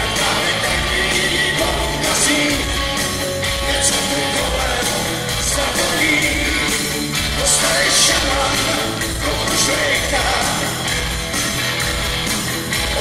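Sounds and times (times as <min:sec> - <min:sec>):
person singing: 0:00.0 - 0:11.2, 0:12.8 - 0:13.0
live rock band: 0:00.0 - 0:13.0.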